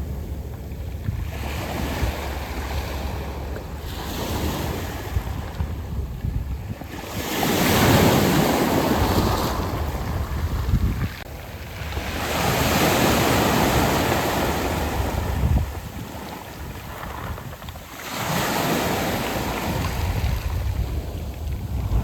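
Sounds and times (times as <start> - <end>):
sea waves washing over pebbles: 0.0 - 22.0.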